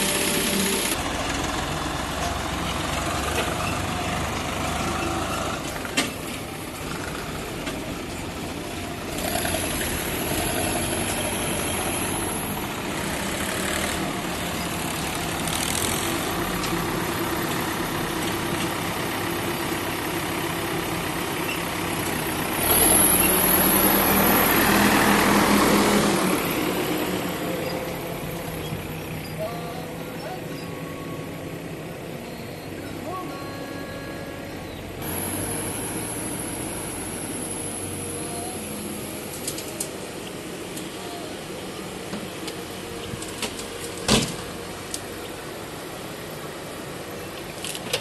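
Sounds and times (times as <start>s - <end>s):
diesel engines running: 0.0s - 48.0s.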